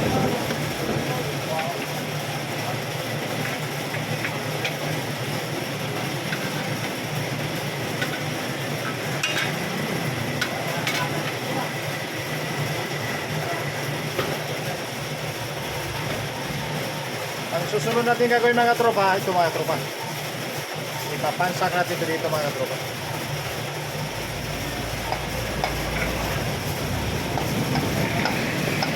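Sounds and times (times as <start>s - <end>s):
machine humming and hissing: 0.0s - 28.9s.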